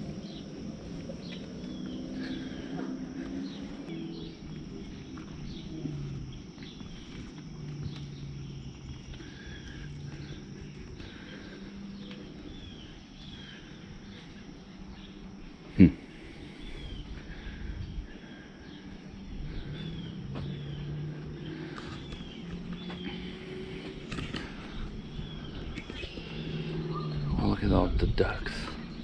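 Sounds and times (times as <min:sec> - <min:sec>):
low drone: 0:00.0 - 0:29.0
small birds chirping: 0:00.0 - 0:29.0.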